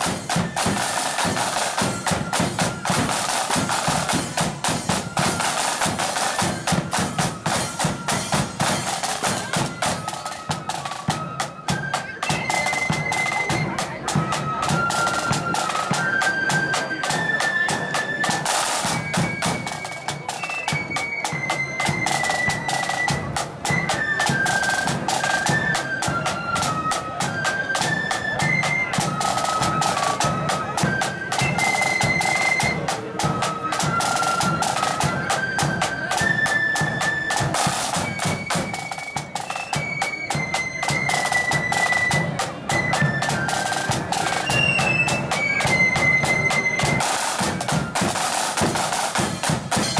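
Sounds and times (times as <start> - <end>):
flutes playing melody: 0.0 - 49.9
snare drumming: 0.0 - 49.9.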